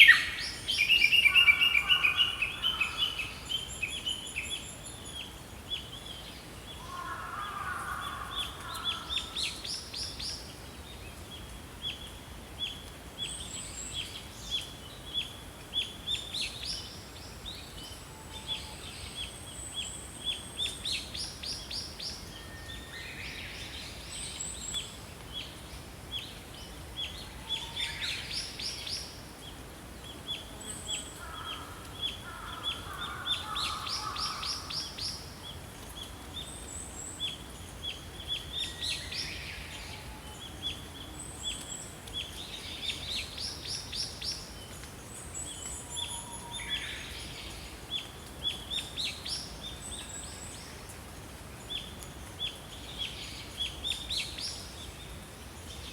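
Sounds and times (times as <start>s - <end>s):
low background hiss: 0.0s - 55.9s.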